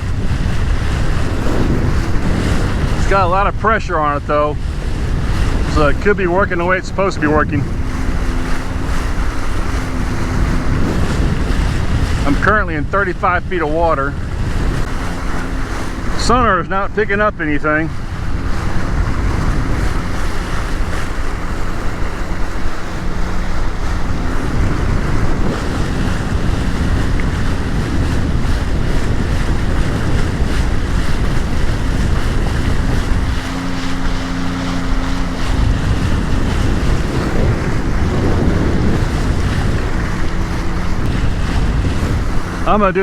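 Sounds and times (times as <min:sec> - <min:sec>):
low engine hum: 0:00.0 - 0:43.0
waves washing against watercraft: 0:00.0 - 0:43.0
wind buffeting microphone: 0:00.0 - 0:43.0.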